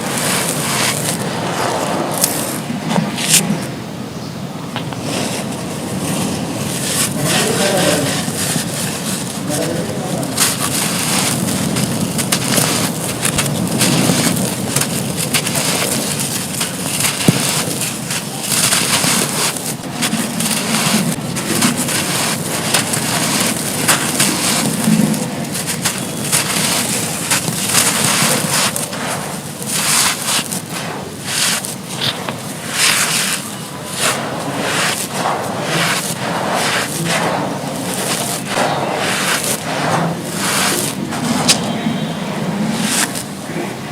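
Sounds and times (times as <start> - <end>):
charcoal and brick crunching: 0.0 - 3.5, 5.1 - 43.9.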